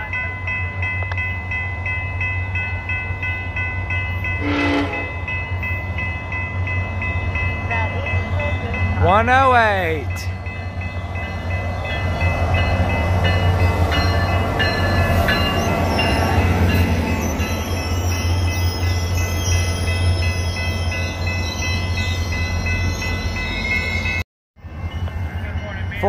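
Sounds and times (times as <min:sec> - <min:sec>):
diesel locomotive engine humming: 0:00.0 - 0:26.0
locomotive bell ringing: 0:00.0 - 0:26.0
train coaches rolling past: 0:00.0 - 0:26.0.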